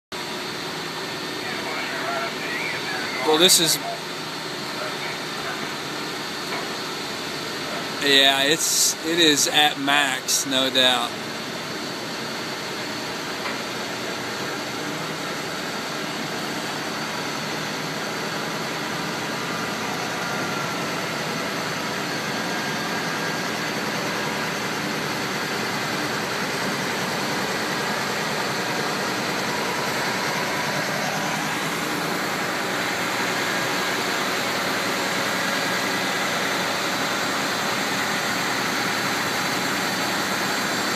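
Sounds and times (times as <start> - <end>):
diesel truck engine: 0.2 - 40.9.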